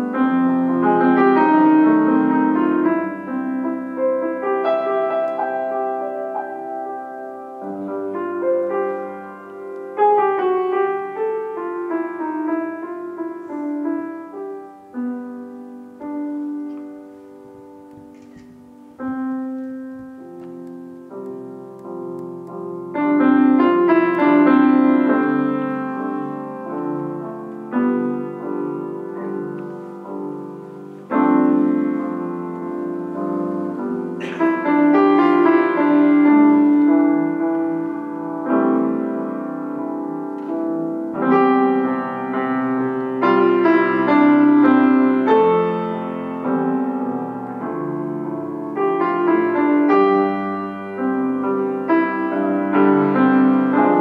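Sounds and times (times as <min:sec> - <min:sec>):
solo grand piano: 0:00.0 - 0:54.0.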